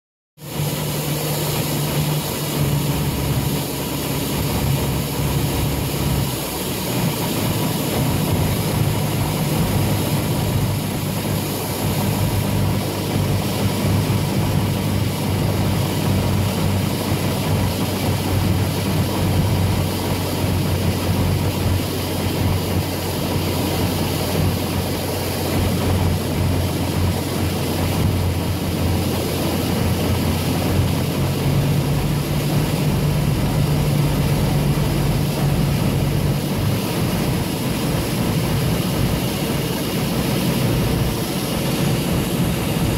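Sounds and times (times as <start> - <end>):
propeller plane engine droning: 0.4 - 42.9.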